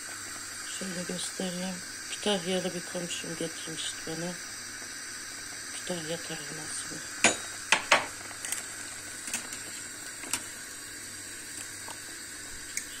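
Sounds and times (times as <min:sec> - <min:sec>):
broth simmering with a hiss: 0:00.0 - 0:13.0.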